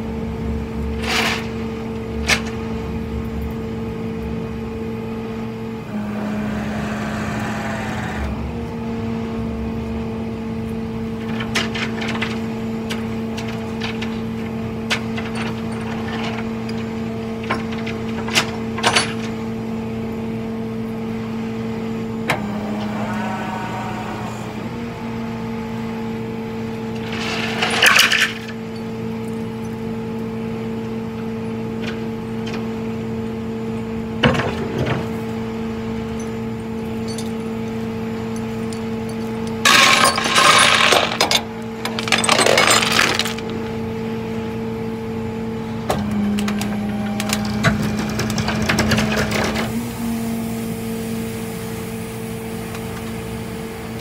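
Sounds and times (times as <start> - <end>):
tow truck engine humming: 1.9 - 39.7, 43.4 - 54.0.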